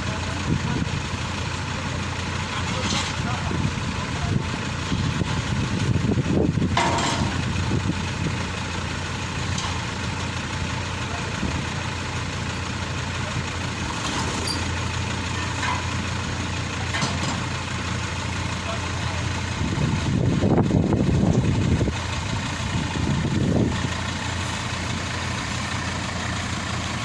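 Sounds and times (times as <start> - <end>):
combine harvester engine running: 0.0 - 27.0.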